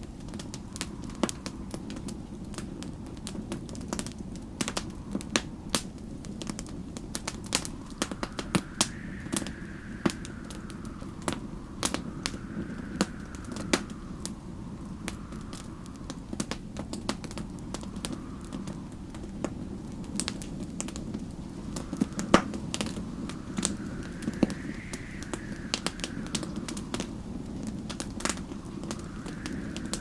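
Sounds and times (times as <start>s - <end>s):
faint wind whistle: 0.0s - 30.0s
storm wind rumble: 0.0s - 30.0s
wood fire crackling: 0.0s - 30.0s.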